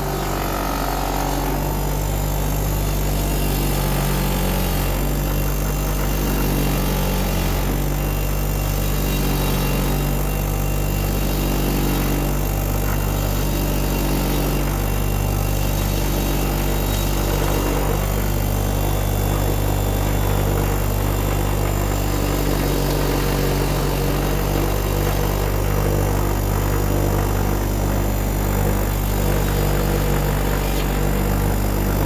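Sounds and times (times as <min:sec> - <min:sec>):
wire wheel motor humming: 0:00.0 - 0:32.0.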